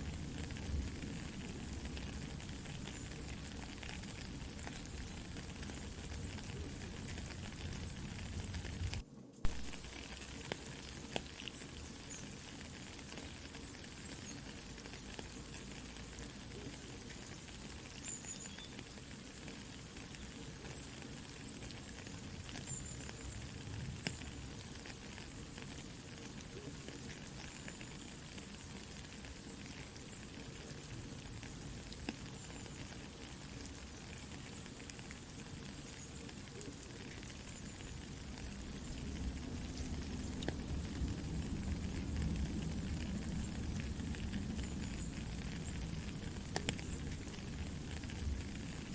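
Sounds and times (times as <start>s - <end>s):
campfire crackling: 0.0s - 48.9s
soft steady rain: 0.0s - 48.9s.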